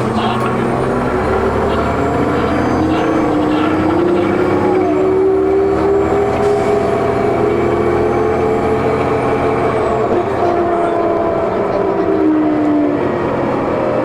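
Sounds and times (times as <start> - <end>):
bus diesel engine pulling: 0.0 - 14.0
faint turbocharger whine: 0.0 - 14.0.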